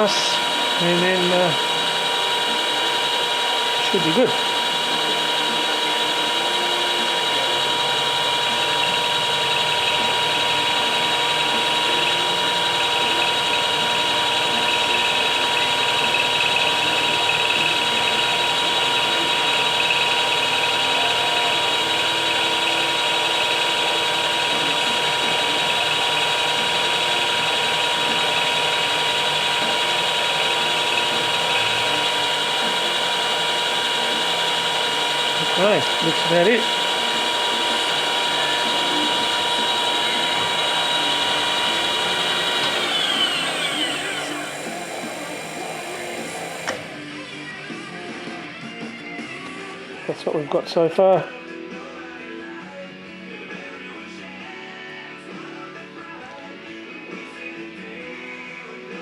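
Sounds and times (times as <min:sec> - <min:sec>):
milling machine whine: 0:00.0 - 0:49.6.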